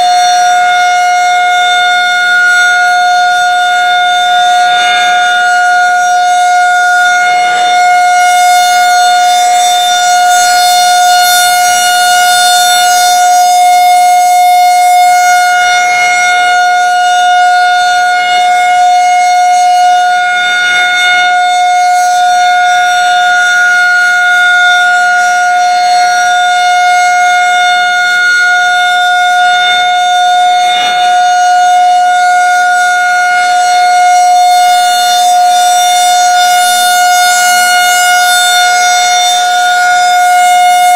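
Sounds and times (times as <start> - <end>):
steady warning siren: 0.0 - 40.9.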